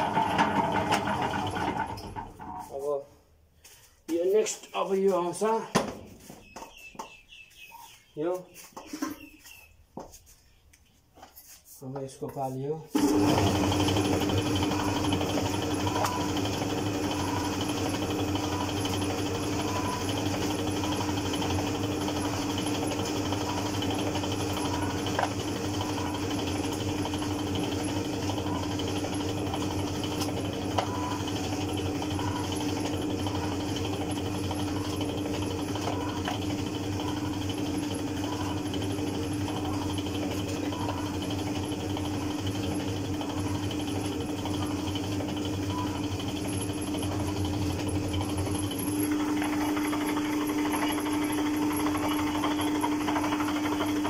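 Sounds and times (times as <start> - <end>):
dough rolling machine humming: 0.0 - 3.0, 12.9 - 54.0.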